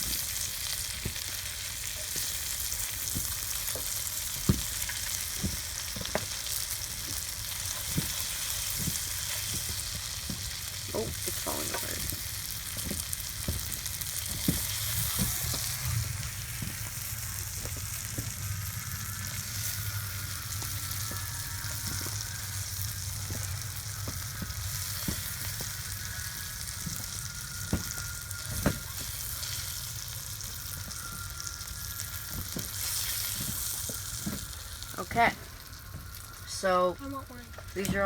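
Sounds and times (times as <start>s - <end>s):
fish sizzling in a frying pan: 0.0s - 38.0s.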